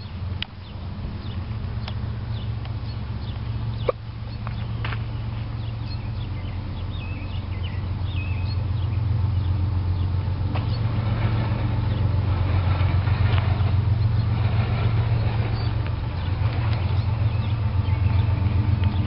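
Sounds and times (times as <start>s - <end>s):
diesel locomotives engine drone: 0.0s - 19.0s.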